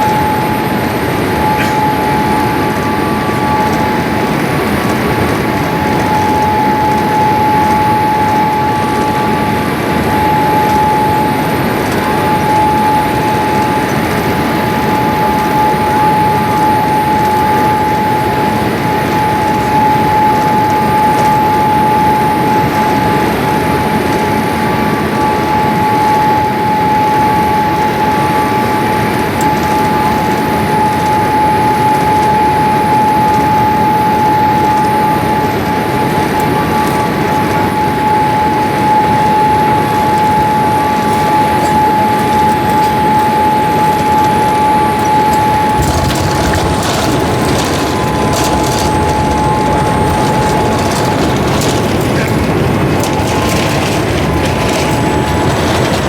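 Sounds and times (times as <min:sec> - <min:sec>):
high engine whine: 0:00.0 - 0:56.0
jet engine cabin rush: 0:00.0 - 0:56.0.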